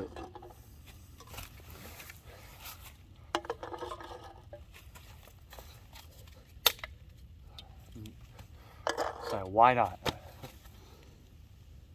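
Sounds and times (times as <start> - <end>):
handling noises with small clicks: 1.2 - 11.1.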